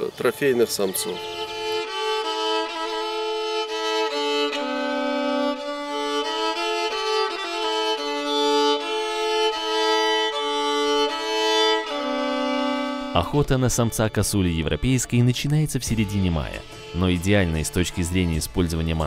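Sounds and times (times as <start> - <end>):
violin playing held notes: 0.0 - 19.0.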